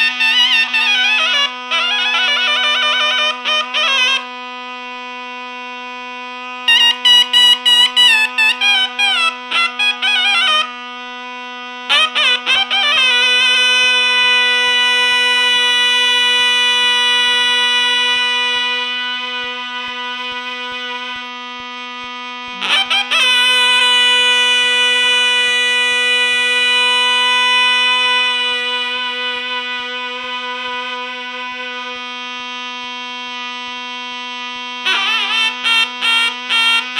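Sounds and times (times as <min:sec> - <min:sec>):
zurna bright held notes: 0:00.0 - 0:36.9
zurna low drone: 0:00.0 - 0:36.9.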